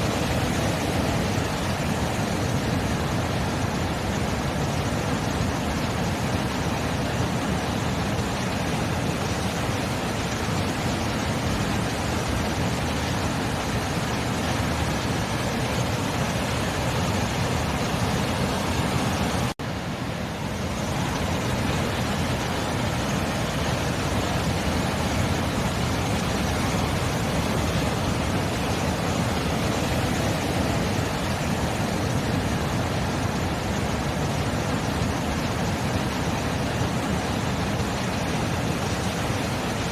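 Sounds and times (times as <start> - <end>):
sea surf rushing: 0.0 - 39.9.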